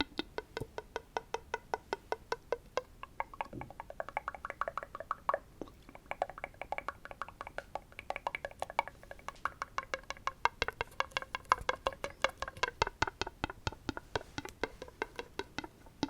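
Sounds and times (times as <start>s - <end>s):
tapping on a hard object: 0.0s - 5.4s, 6.2s - 16.0s.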